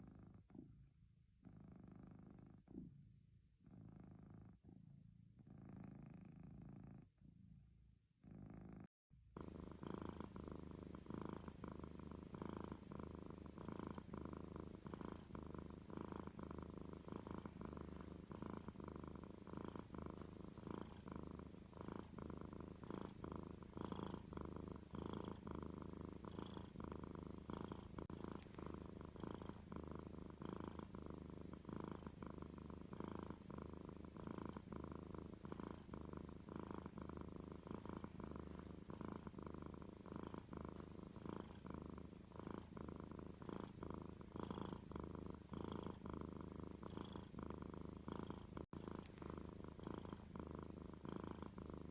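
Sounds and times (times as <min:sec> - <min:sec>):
cat purring: 0:00.0 - 0:51.9.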